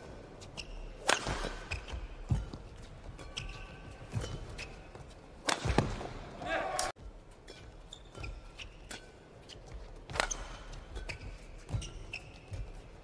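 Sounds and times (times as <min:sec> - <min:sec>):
shoes squeaking on court: 0:00.0 - 0:06.2, 0:07.0 - 0:13.0
racket hitting shuttlecock: 0:00.5 - 0:06.9, 0:07.5 - 0:13.0.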